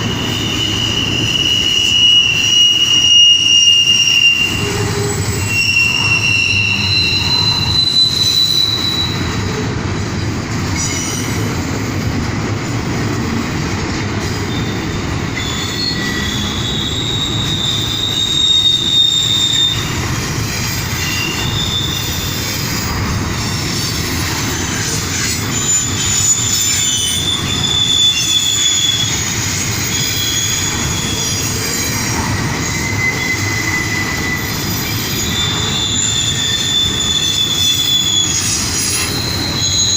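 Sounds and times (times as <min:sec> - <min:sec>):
high-pitched wheel squeals: 0:00.0 - 0:09.5, 0:14.4 - 0:39.9
steel wheels rumbling on rail: 0:00.0 - 0:39.9.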